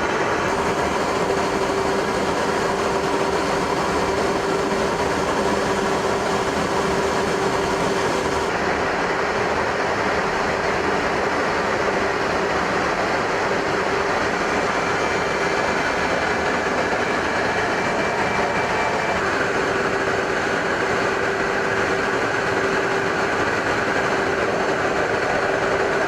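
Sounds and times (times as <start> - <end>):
jet engine whine and rush: 0.0 - 26.0.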